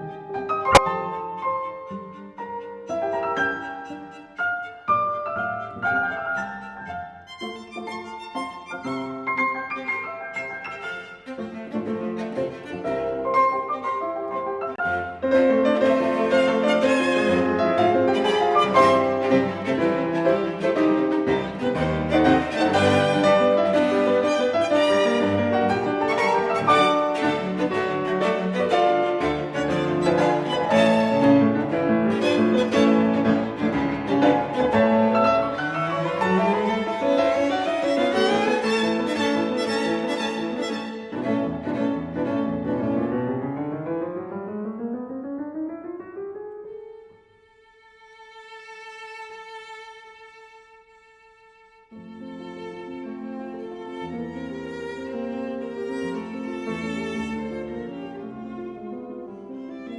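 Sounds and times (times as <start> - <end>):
violin and cello: 0.0 - 43.4, 47.4 - 59.9
strings and piano music: 0.0 - 59.9.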